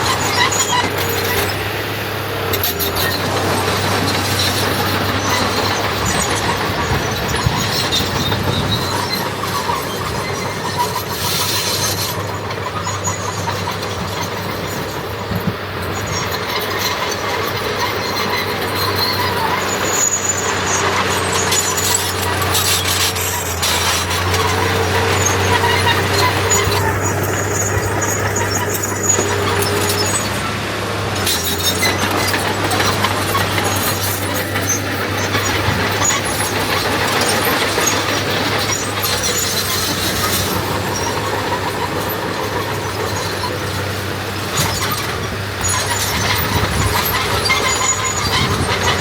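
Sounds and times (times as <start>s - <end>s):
earthmoving machinery engine hum: 0.0s - 49.0s.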